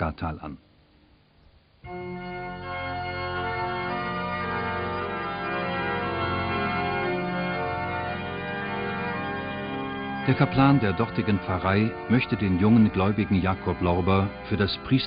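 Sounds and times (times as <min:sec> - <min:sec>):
organ playing sustained chords: 0:01.8 - 0:15.0.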